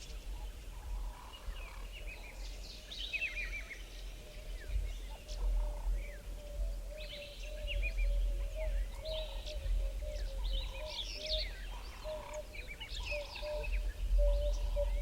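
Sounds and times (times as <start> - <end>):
birds chirping and singing: 0.0 - 15.0.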